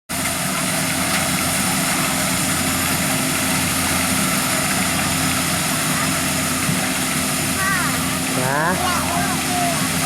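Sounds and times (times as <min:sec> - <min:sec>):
harvester engine drone: 0:00.1 - 0:10.0.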